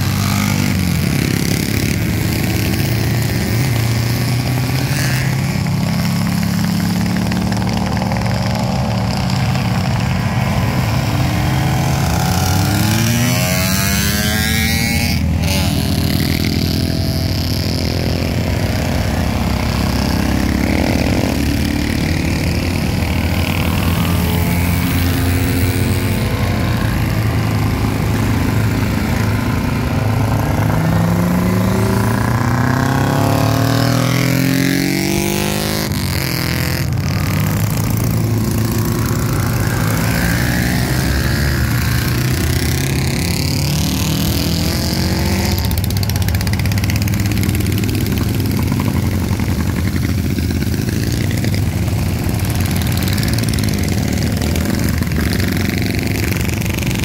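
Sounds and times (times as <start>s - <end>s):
motorcycle accelerating past: 0.0s - 57.0s
motorcycles riding past: 0.0s - 57.0s.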